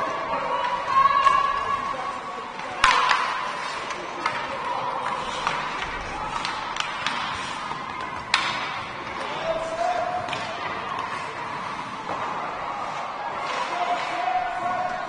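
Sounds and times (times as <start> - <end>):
hockey sticks and puck clacking: 0.0 - 15.0.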